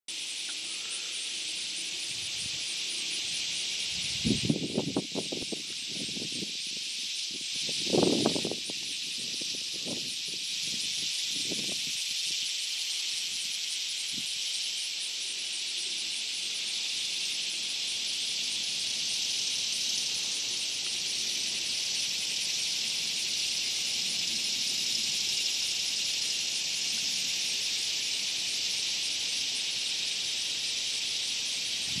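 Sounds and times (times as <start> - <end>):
fast pulsing insect trill: 0.1 - 32.0
insect chorus drone: 0.1 - 32.0.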